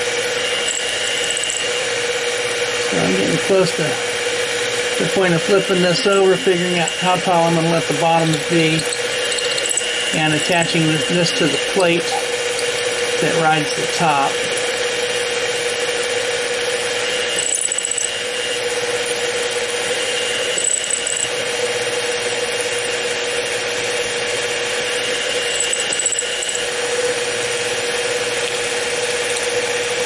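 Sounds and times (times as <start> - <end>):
drill cutting aluminum: 0.0 - 30.0
mill motor whine: 0.0 - 30.0.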